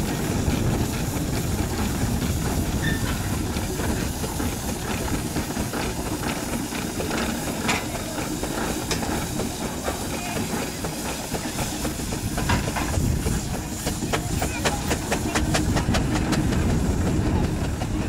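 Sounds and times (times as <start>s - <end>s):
steam hissing: 0.0s - 18.0s
steam traction engine running: 0.0s - 18.0s.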